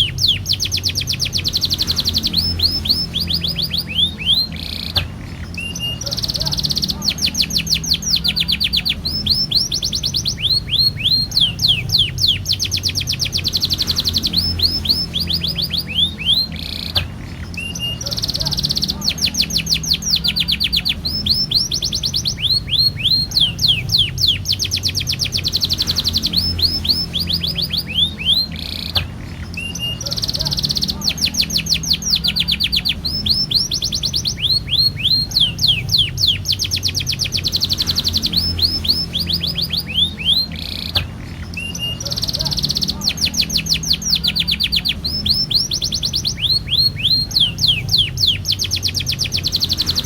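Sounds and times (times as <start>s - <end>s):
canary singing trills: 0.0s - 50.0s
steady low hum: 0.0s - 50.0s.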